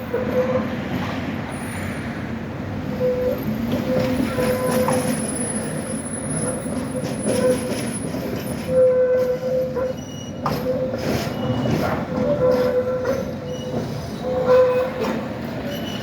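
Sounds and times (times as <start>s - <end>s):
tram rumbling along track: 0.0s - 16.0s
tram wheels squealing: 0.0s - 16.0s.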